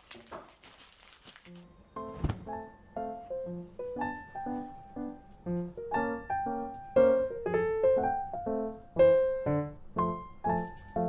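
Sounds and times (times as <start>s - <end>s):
light piano tune: 1.5s - 11.0s.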